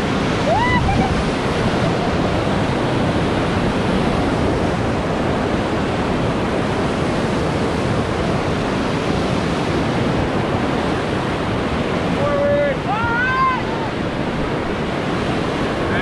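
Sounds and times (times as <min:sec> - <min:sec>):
whitewater rushing in river rapid: 0:00.0 - 0:16.0.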